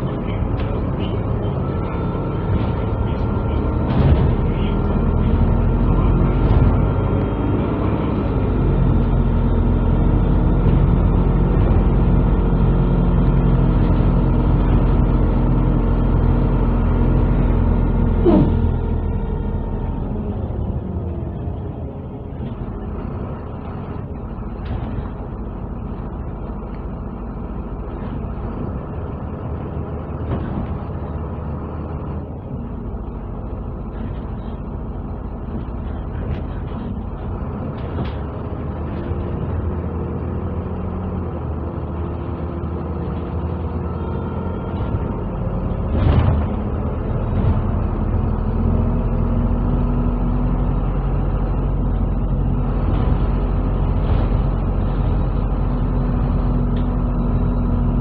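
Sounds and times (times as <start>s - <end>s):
bus engine humming: 0.0s - 58.0s
road noise: 0.0s - 58.0s.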